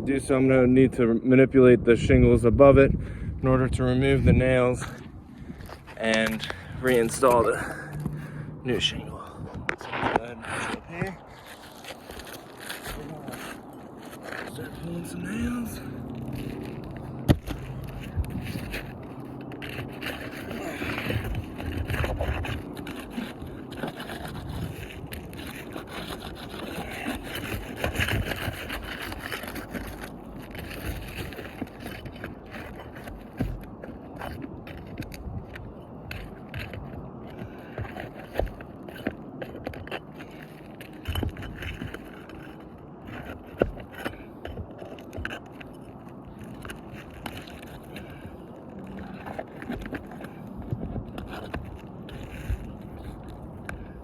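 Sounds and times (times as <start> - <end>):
tool scraping shingles: 3.5 - 54.0.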